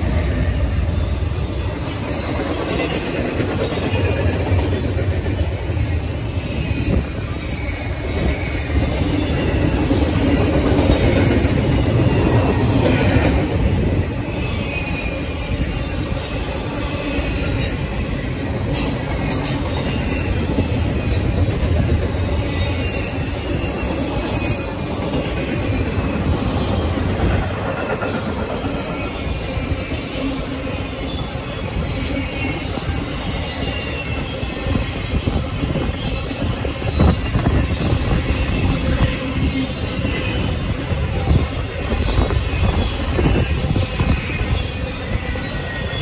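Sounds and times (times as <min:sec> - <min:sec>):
high wheel squeal: 0:00.0 - 0:04.3, 0:05.1 - 0:46.0
rail clatter: 0:00.0 - 0:46.0
train rumbling past: 0:00.0 - 0:46.0.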